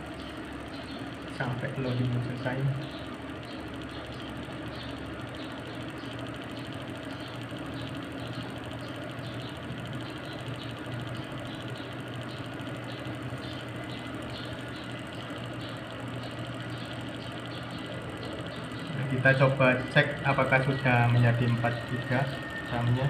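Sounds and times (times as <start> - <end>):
computer fan hum: 0.0 - 23.0
light regular ticking: 0.0 - 23.0.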